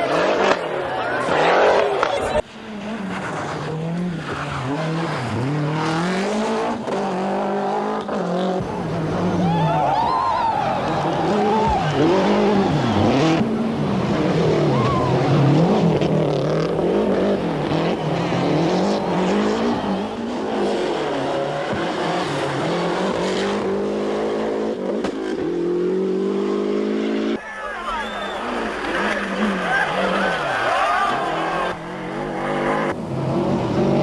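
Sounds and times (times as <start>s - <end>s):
rally car engines revving: 0.0s - 27.4s, 28.1s - 34.0s.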